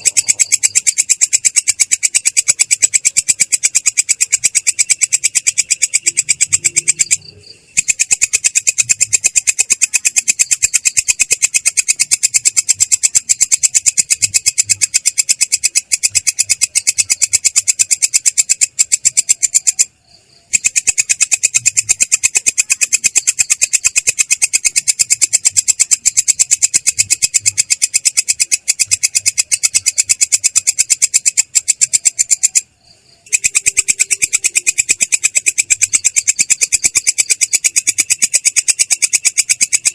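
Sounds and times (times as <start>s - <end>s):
katydid rapid rolling trill: 0.0s - 19.9s, 20.5s - 32.6s, 33.2s - 39.9s.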